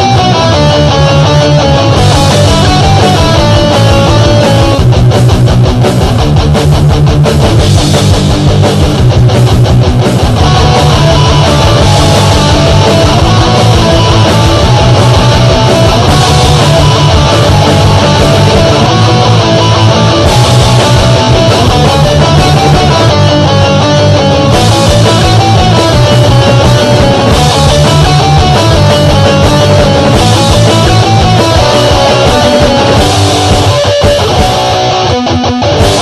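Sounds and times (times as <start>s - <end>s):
punk rock backing track: 0.0s - 36.0s.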